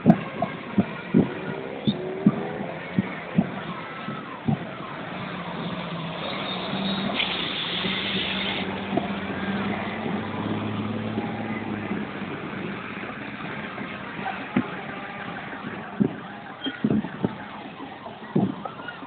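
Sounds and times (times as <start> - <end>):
street traffic engines: 0.0 - 19.0.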